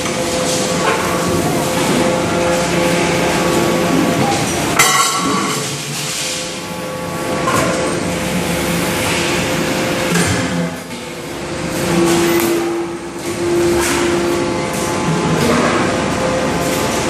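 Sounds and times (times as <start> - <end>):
hydraulic press humming: 0.0 - 17.0.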